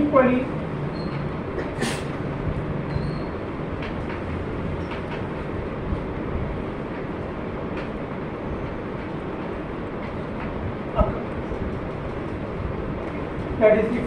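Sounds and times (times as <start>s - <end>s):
rushing room noise: 0.0s - 14.0s.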